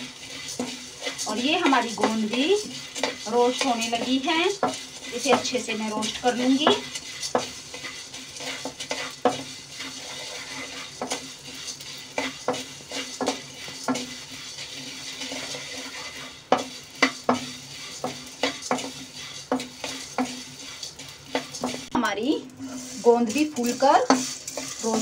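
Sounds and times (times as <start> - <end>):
faint crackling sizzle: 0.0 - 25.0
wooden spatula scraping metal pan: 0.0 - 25.0.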